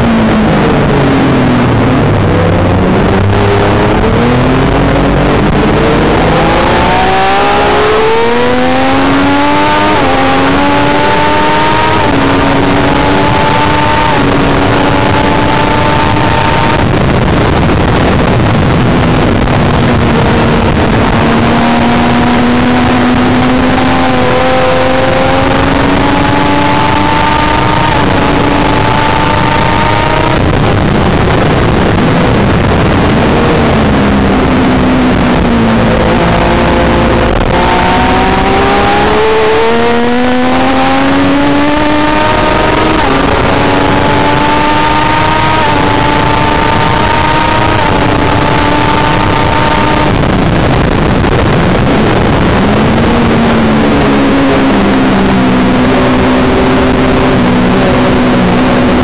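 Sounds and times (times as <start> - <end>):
heavy wind rush: 0.0 - 59.0
motorcycle engine revving: 0.0 - 59.0.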